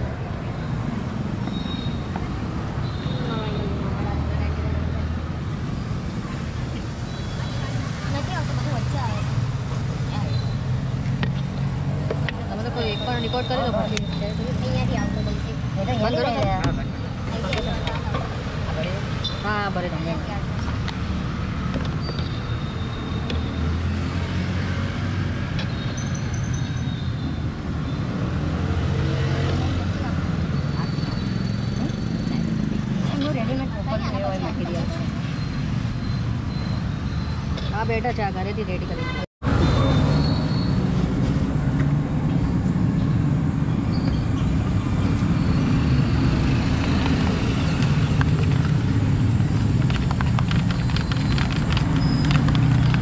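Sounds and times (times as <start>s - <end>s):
low rumble of passing vehicles: 0.0s - 53.0s.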